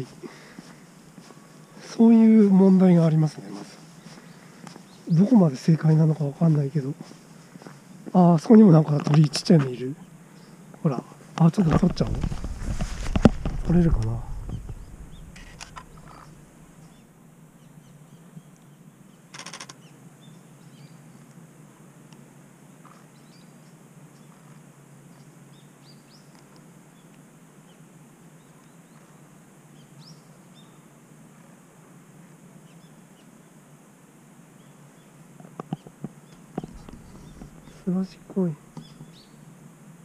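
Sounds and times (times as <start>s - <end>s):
small birds chirping: 0.0s - 21.3s, 23.1s - 30.9s, 34.5s - 39.5s.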